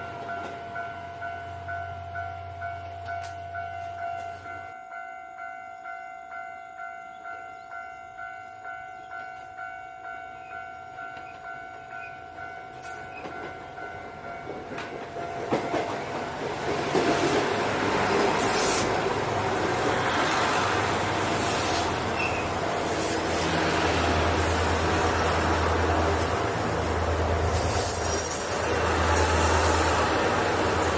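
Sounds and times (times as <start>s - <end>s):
diesel train passing: 0.0s - 30.9s.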